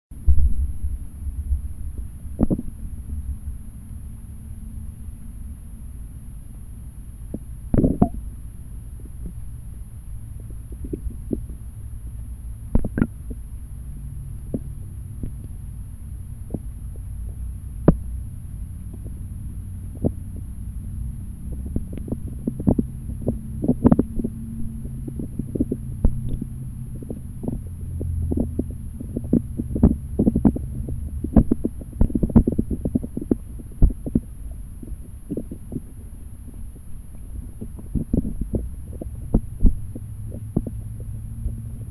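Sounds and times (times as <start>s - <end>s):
muffled underwater stream rumble: 0.2s - 41.9s.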